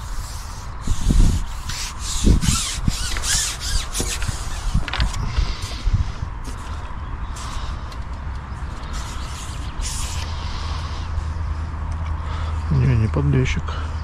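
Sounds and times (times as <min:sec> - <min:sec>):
fishing tackle rubbing and scraping: 0:00.0 - 0:11.4.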